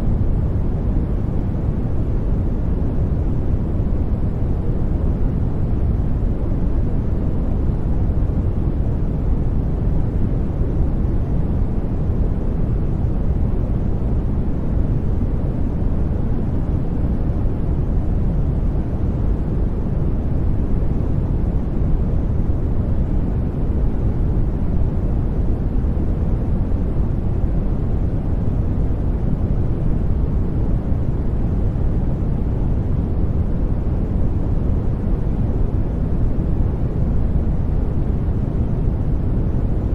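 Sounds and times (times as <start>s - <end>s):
steady brown noise: 0.0s - 39.9s.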